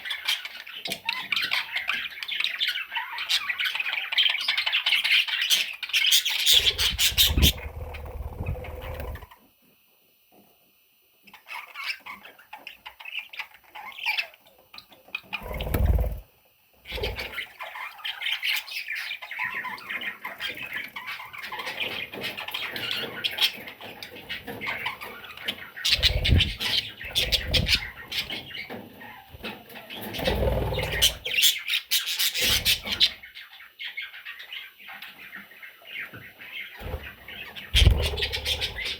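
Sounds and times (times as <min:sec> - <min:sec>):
baby budgerigars chirping: 0:00.0 - 0:09.3, 0:11.2 - 0:16.2, 0:16.9 - 0:38.9.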